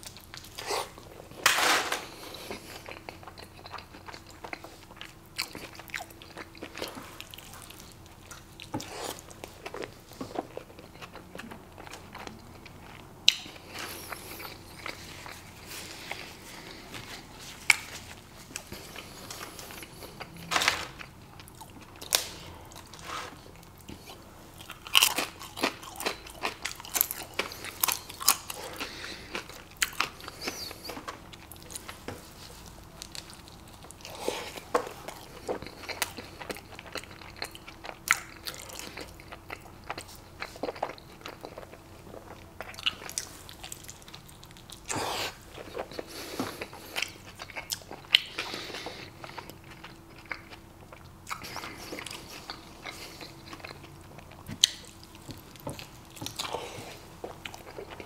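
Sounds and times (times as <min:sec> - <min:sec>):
chewing and biting food: 0:02.0 - 0:58.0.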